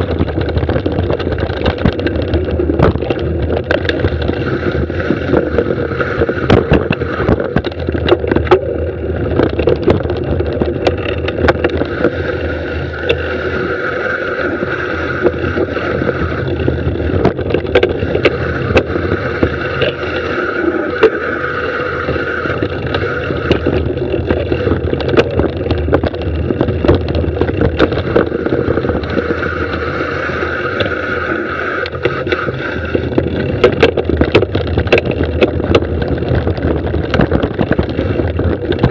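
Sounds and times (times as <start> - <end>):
bike rattling over rocks: 0.0 - 38.9
mountain bike rushing downhill: 0.0 - 38.9
high whir: 1.4 - 36.1.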